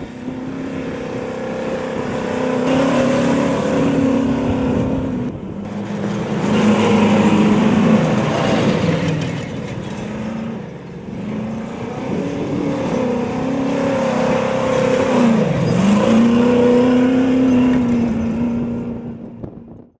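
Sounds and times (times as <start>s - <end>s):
truck engine revving: 0.0s - 19.8s.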